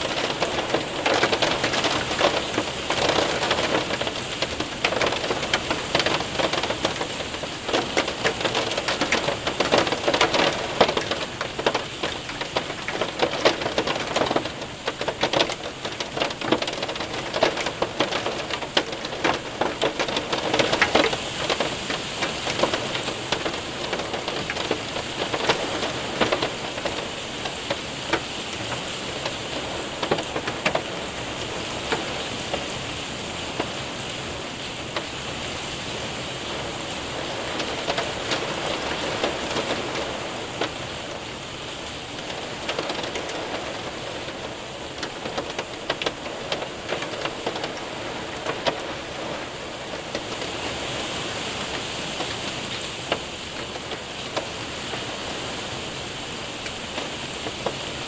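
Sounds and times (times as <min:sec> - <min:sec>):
hailstones ticking: 0:00.0 - 0:58.0
heavy rain on window and roof: 0:00.0 - 0:58.0.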